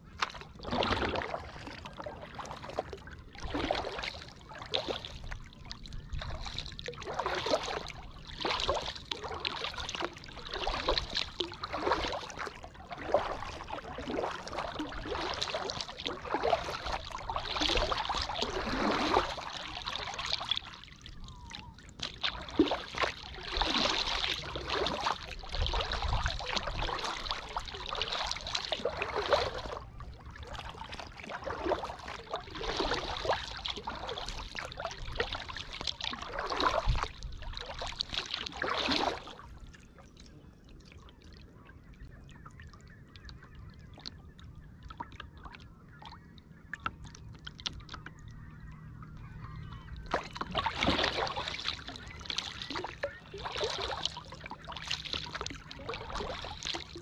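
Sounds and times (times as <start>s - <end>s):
paddle strokes splashing water: 0.0s - 57.0s
faint water drips: 0.2s - 57.0s.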